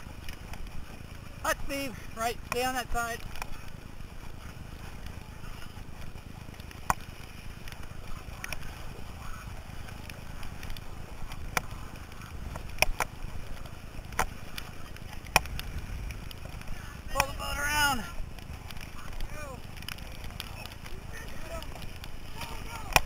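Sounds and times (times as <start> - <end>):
paddle clicks: 0.0 - 23.0
water and wind rushing: 0.0 - 23.0.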